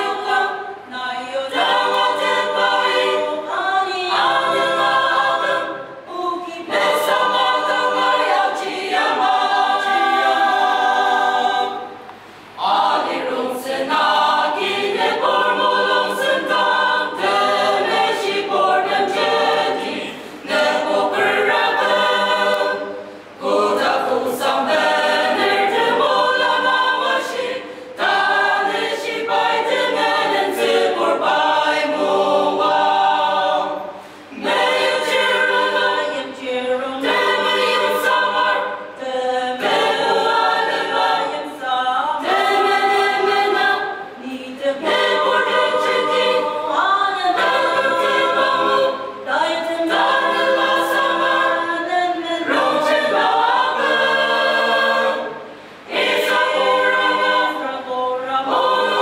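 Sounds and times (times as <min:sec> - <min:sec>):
mixed choir singing unaccompanied: 0:00.0 - 0:59.0.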